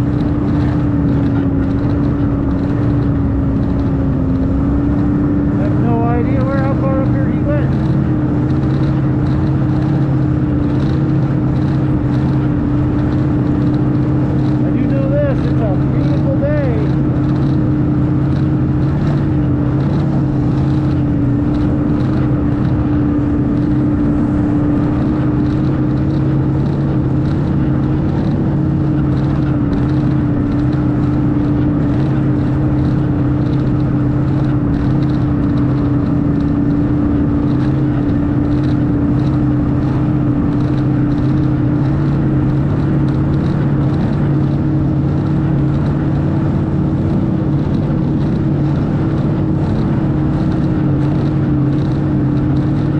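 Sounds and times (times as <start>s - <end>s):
snowmobile engine droning: 0.0s - 52.9s.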